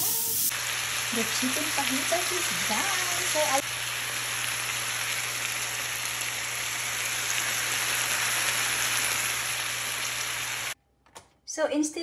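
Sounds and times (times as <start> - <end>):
food sizzling in a frying pan: 0.0 - 10.8.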